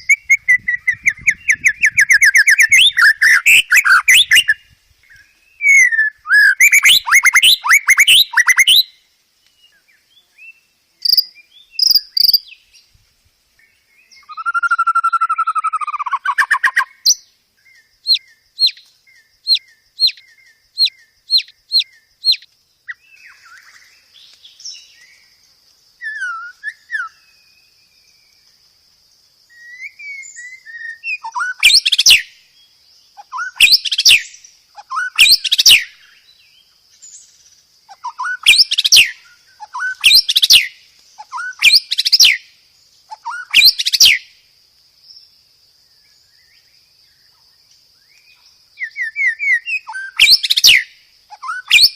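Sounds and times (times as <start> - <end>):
soft bird chirps: 0.0 - 51.9.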